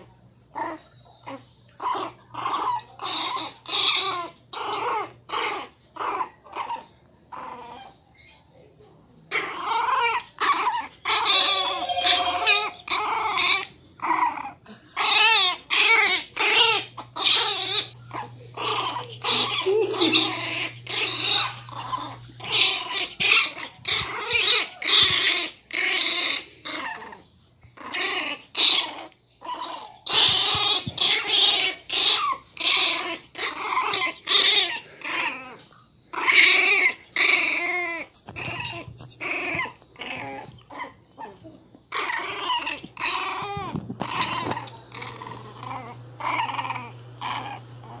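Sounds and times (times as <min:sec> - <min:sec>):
puppies growling and yapping: 0:00.0 - 0:48.0
puppy yelps: 0:00.5 - 0:08.5, 0:09.3 - 0:27.2, 0:27.8 - 0:48.0.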